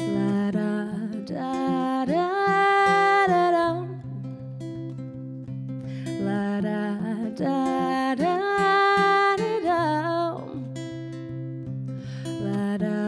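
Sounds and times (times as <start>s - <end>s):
fingerpicked acoustic guitar: 0.0s - 13.0s
woman singing: 0.0s - 13.0s.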